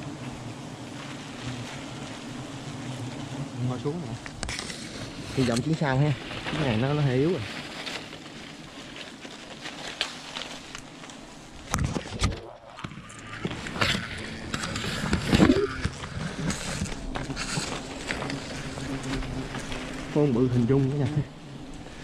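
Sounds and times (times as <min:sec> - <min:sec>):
rustling and handling noise: 0:04.1 - 0:22.0.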